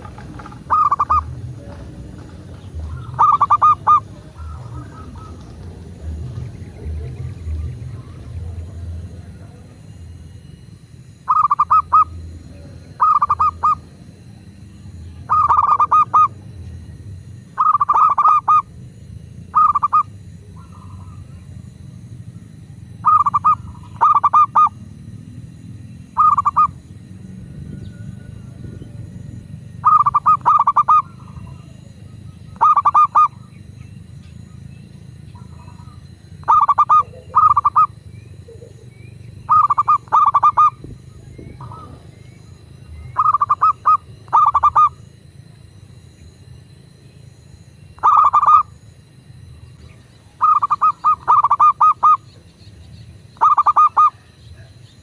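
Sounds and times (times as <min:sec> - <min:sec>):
dove cooing: 0:00.0 - 0:10.4, 0:11.2 - 0:16.6, 0:17.5 - 0:18.8, 0:19.4 - 0:25.2, 0:26.1 - 0:45.1, 0:48.0 - 0:48.8, 0:49.8 - 0:52.4, 0:53.4 - 0:55.0
faint low rumble: 0:00.0 - 0:51.4.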